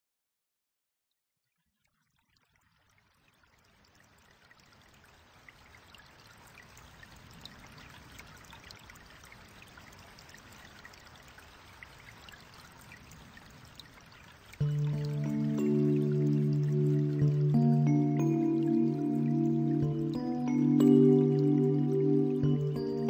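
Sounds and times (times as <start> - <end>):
trickling stream: 1.6 - 23.0
water drips: 1.8 - 23.0.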